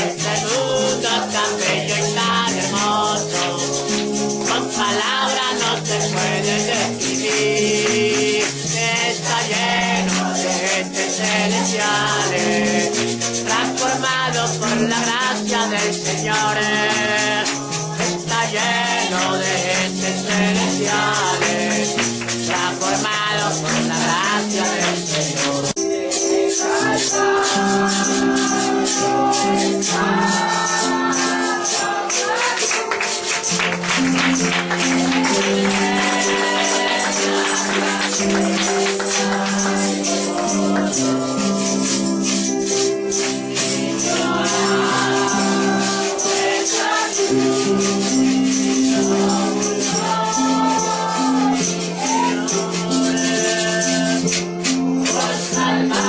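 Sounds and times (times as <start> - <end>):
church band playing praise song: 0.0 - 56.0
tambourine shaking: 0.0 - 56.0.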